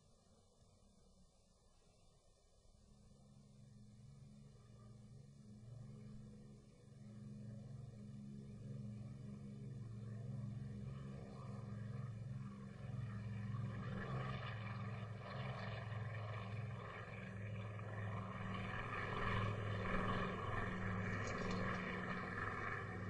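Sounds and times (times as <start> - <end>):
propeller airplane passing: 3.2 - 23.0.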